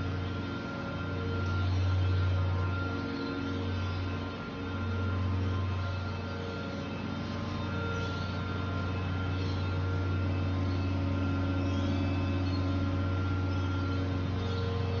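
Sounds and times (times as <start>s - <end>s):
faint steady tones: 0.0s - 15.0s
low mechanical hum: 0.0s - 15.0s.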